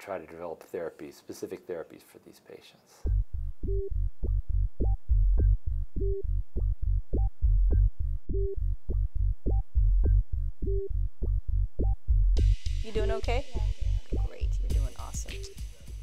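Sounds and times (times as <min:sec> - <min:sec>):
pulsing low bass beat: 0:03.1 - 0:16.0.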